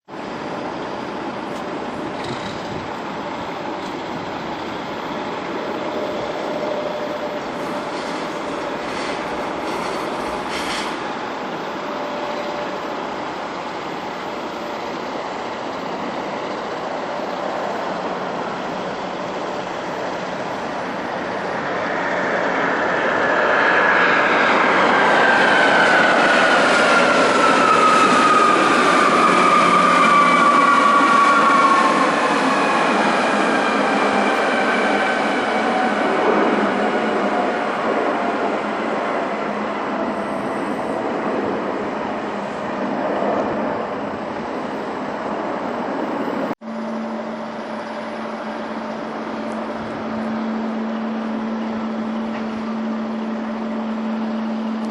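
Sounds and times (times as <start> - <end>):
jet engine rumble: 0.2 - 54.9
jet engine whine falling in pitch: 0.2 - 54.9.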